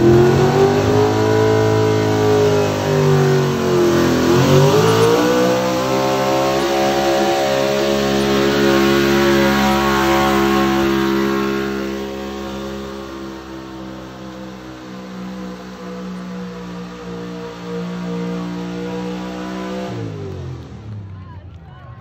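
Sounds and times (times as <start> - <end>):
truck engine revving under load: 0.0 - 21.2.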